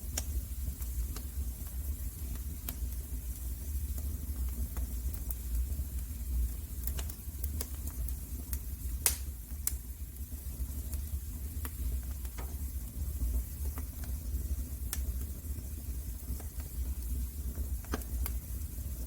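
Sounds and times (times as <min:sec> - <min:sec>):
fire crackling and popping: 0:00.0 - 0:19.0
low fire rumble: 0:00.0 - 0:19.0.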